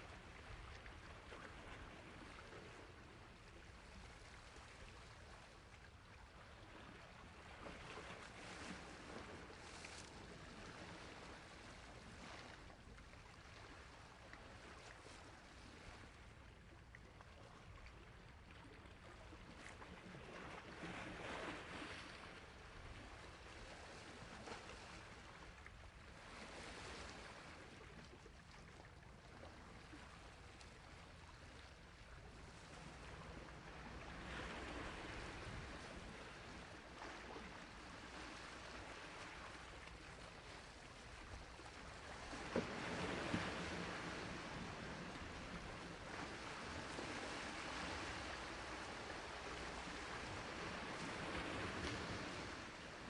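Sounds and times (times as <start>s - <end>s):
faint sea waves washing on shore: 0.0s - 53.0s.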